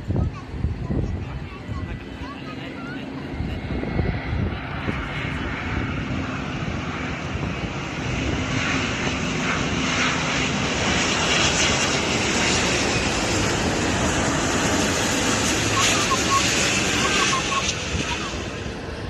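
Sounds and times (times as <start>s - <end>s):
jet engines: 0.0s - 19.0s.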